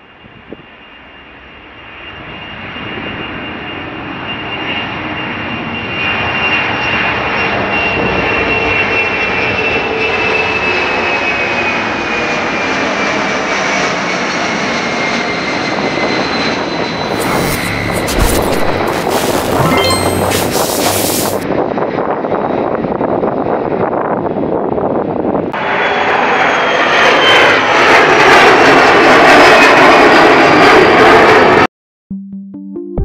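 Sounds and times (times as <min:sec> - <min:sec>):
jet aircraft engines roaring: 0:00.1 - 0:19.7, 0:20.6 - 0:31.7.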